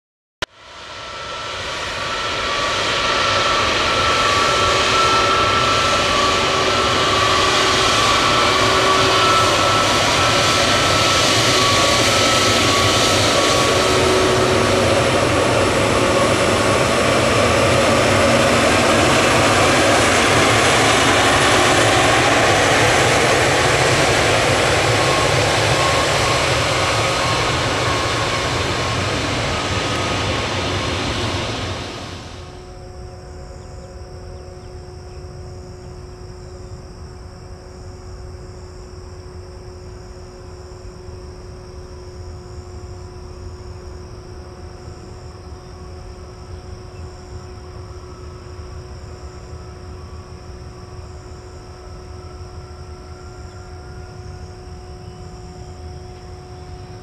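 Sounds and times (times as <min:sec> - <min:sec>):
jet engines running loud: 0:00.5 - 0:57.0.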